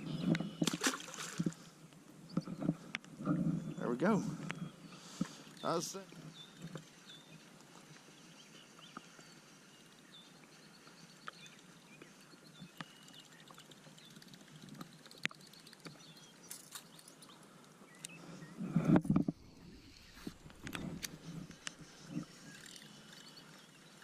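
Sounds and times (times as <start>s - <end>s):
distant birds chirping: 0.0s - 24.0s.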